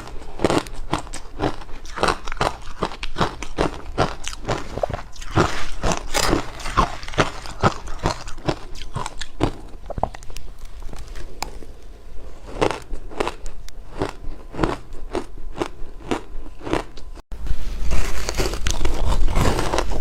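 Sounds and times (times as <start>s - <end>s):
person crunching ice: 0.0s - 10.2s, 12.4s - 17.0s, 17.8s - 20.0s.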